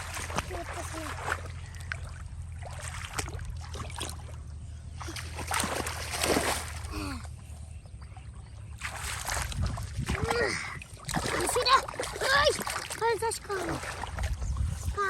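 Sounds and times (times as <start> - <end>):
hands splashing in muddy water: 0.0 - 4.4, 5.0 - 7.2, 8.8 - 14.8.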